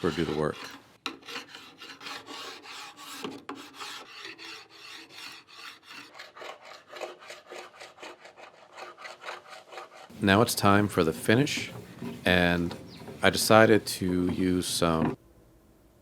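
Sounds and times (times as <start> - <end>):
tool scraping paint off wood: 0.0 - 15.2.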